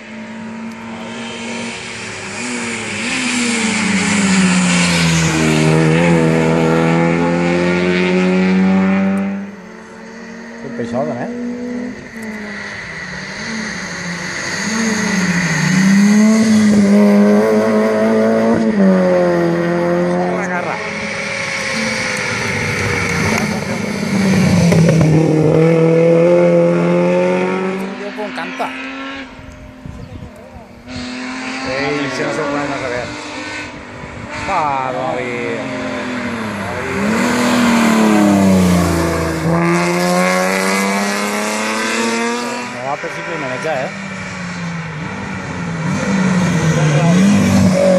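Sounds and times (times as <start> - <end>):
rally car engine revving: 0.0 - 47.9.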